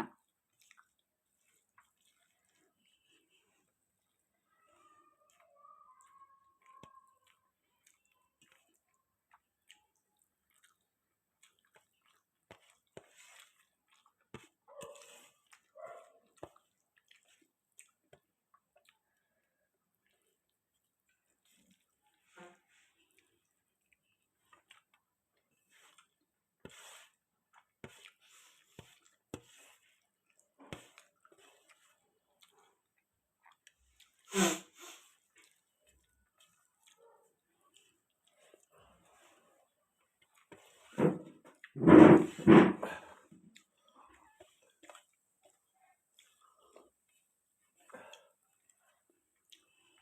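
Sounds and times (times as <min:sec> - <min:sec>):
person chewing: 0:00.1 - 0:04.3, 0:05.2 - 0:41.8, 0:42.8 - 0:50.0.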